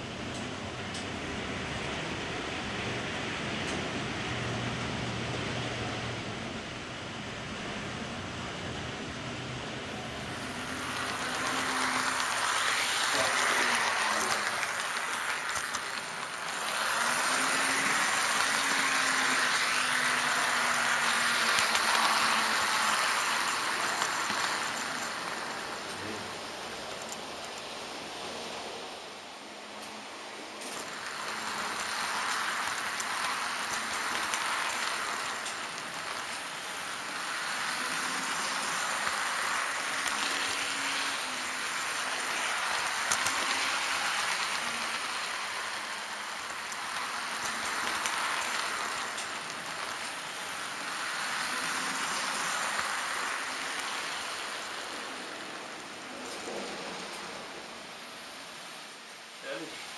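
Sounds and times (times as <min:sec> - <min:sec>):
model train wheels on rails: 0:00.0 - 0:59.9.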